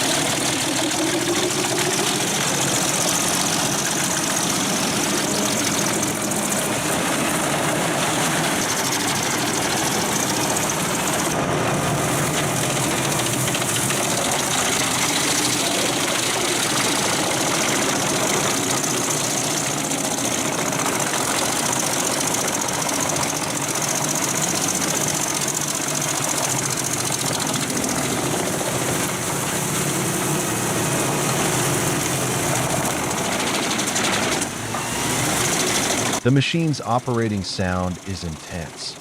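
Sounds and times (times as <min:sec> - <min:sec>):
wood chipper chipping logs: 0:00.0 - 0:36.3
engine droning: 0:00.0 - 0:39.0.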